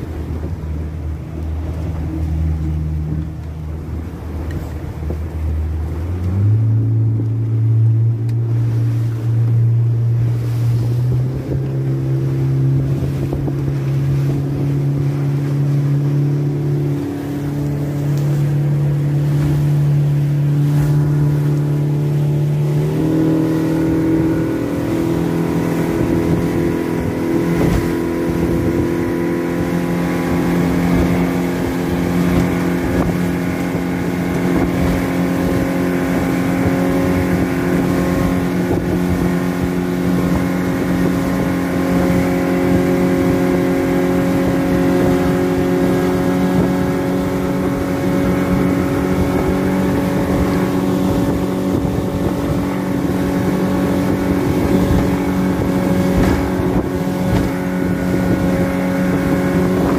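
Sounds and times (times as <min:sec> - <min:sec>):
outboard motor running: 0:00.0 - 0:59.9
rushing water: 0:00.0 - 0:59.9
wind: 0:00.0 - 0:59.9.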